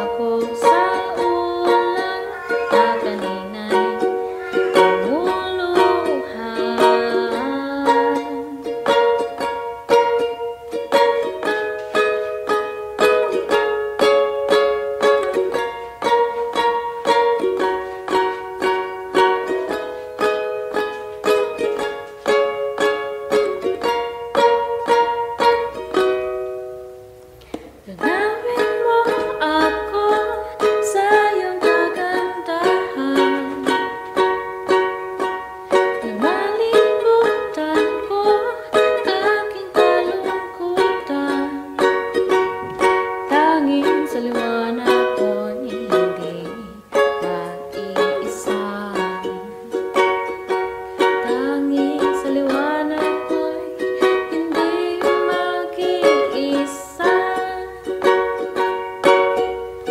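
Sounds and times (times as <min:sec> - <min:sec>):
ukulele strumming chords: 0:00.0 - 0:59.9.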